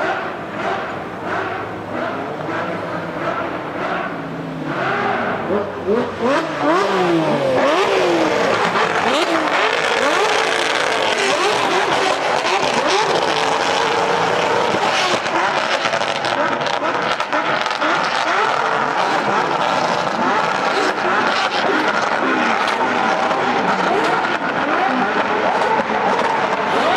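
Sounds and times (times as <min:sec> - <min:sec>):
car engine revving hard: 0:00.0 - 0:26.9.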